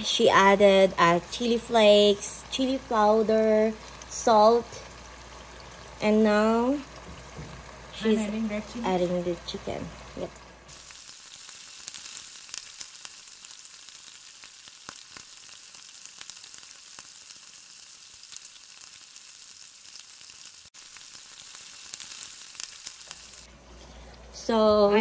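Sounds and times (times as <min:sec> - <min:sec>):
chicken sizzling in a pot: 0:00.0 - 0:23.5.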